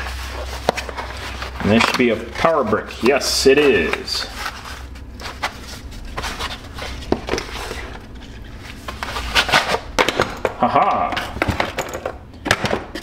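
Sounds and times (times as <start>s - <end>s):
paper and packaging rustling: 0.0s - 10.5s
low steady hum: 0.0s - 13.0s.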